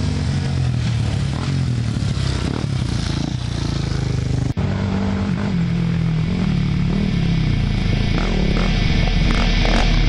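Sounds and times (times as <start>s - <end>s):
atv engine revving: 0.0s - 10.0s.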